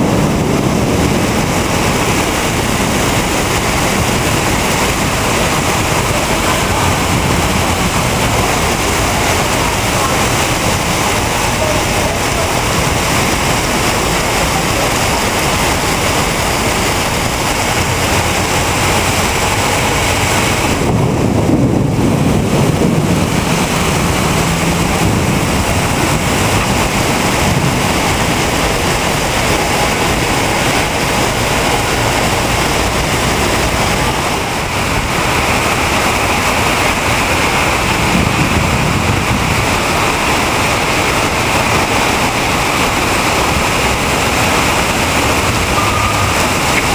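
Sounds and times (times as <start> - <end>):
rainwater pouring off building: 0.0 - 46.9.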